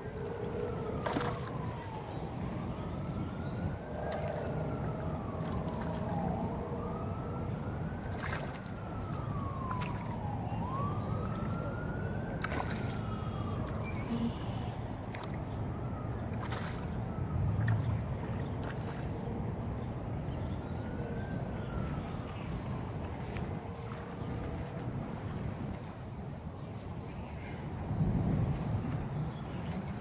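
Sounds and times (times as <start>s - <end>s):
emergency siren wailing: 0.0s - 29.2s.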